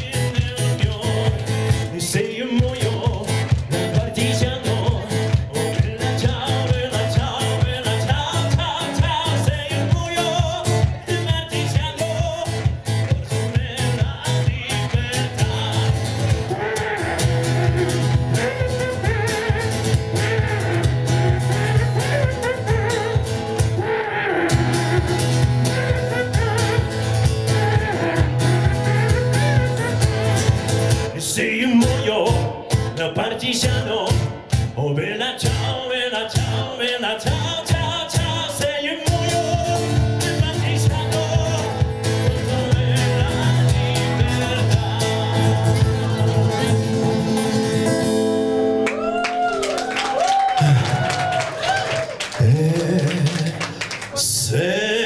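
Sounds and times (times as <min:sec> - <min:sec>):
man singing: 0:00.0 - 0:30.4, 0:31.0 - 0:48.0, 0:52.4 - 0:55.0
acoustic guitar strumming: 0:00.0 - 0:49.1.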